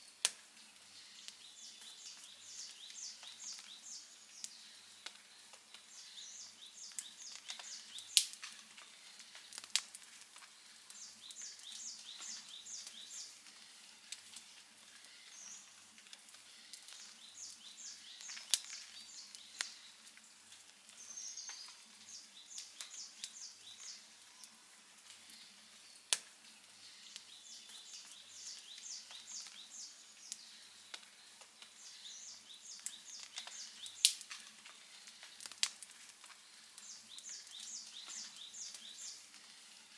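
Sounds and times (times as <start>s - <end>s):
campfire crackling and popping: 0.1s - 39.7s.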